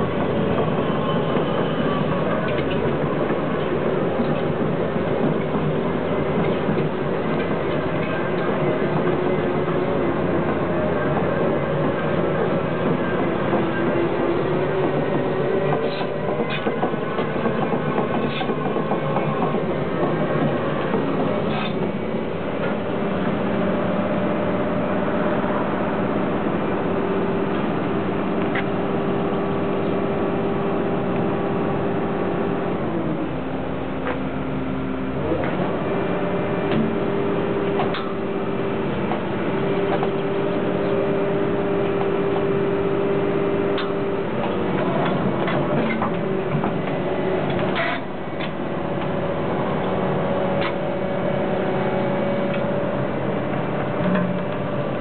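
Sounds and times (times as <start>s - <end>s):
excavator engine and hydraulics droning: 0.0s - 55.0s.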